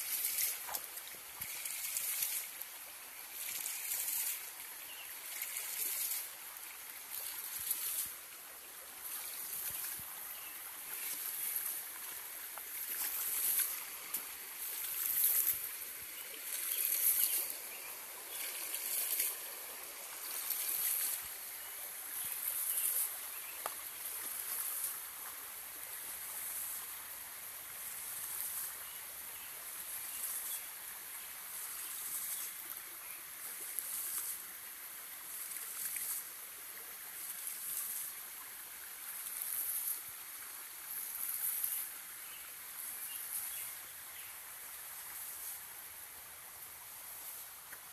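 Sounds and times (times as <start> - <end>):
water gushing from pump valve: 0.0 - 41.6
shallow stream rushing: 0.0 - 47.9.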